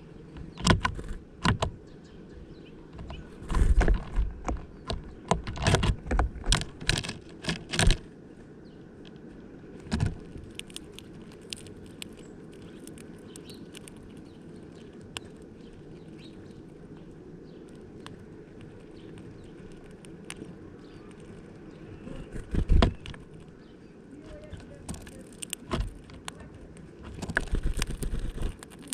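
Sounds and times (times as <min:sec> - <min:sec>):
bird pecking at seeds: 0:00.0 - 0:28.9
steady low hum: 0:00.0 - 0:28.9.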